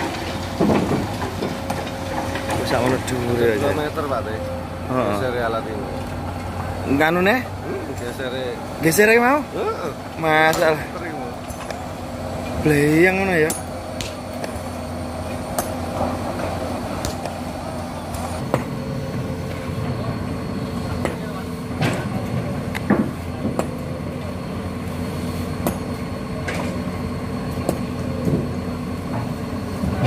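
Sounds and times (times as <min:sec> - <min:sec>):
excavator engine idling: 0:00.0 - 0:30.0.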